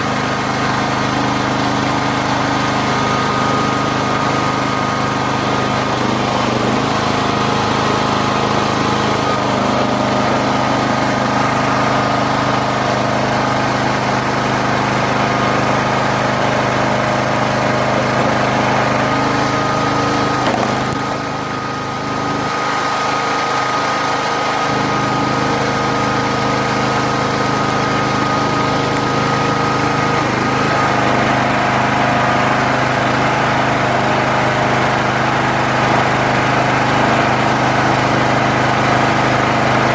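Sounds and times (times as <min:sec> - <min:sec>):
log splitter engine running: 0:00.0 - 0:39.9.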